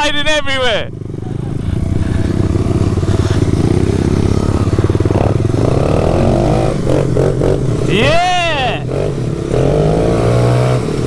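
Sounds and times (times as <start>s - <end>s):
motorbike engine running: 0.8s - 11.0s.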